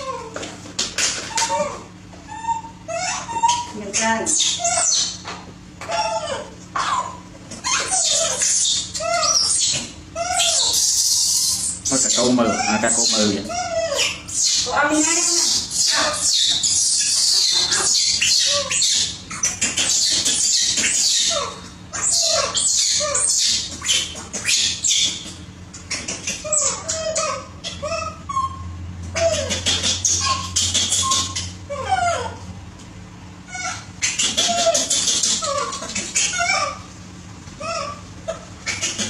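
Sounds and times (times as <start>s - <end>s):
baby monkey crying: 0.0s - 32.5s, 33.5s - 36.9s, 37.6s - 39.0s.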